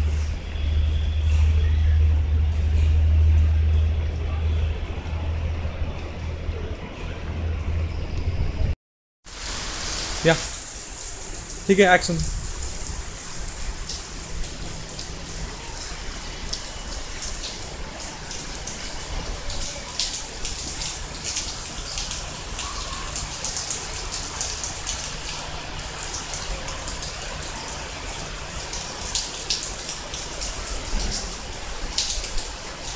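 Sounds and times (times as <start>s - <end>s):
rain on wet pavement: 0.0s - 7.5s, 9.2s - 32.9s
water dripping close by: 0.1s - 6.3s, 9.3s - 32.9s.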